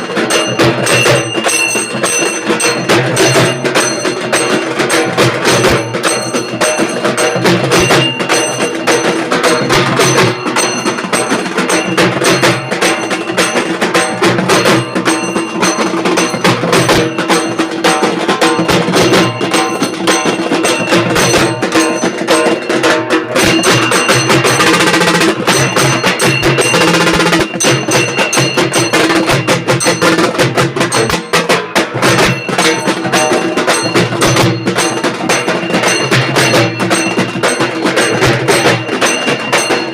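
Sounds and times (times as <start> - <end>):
frame drums beaten with sticks: 0.0 - 39.9.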